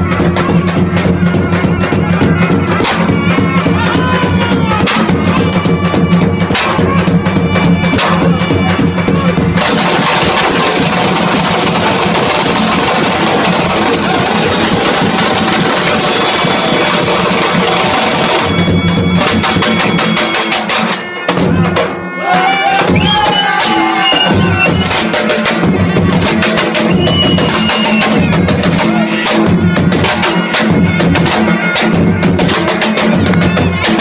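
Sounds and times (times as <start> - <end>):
bass drum beaten fast: 0.0 - 22.0, 22.8 - 34.0.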